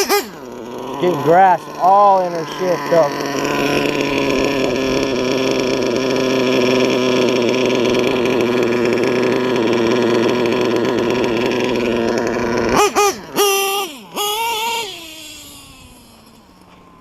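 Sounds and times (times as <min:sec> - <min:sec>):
model engine screaming at high revs: 0:00.0 - 0:17.0.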